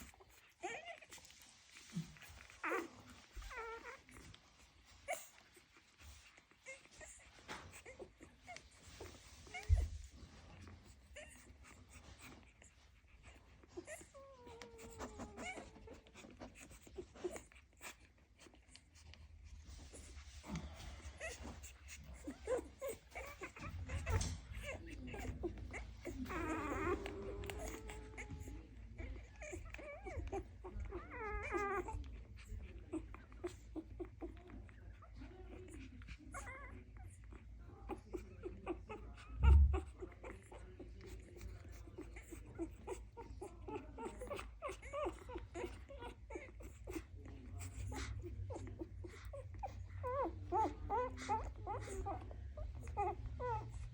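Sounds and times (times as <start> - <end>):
puppies whimpering and squeaking: 0.0 - 53.9
puppy whining: 0.0 - 53.9.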